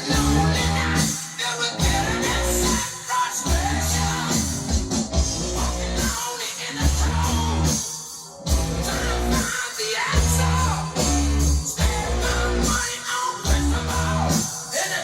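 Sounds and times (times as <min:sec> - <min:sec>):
rock music with guitar and singing: 0:00.0 - 0:15.0.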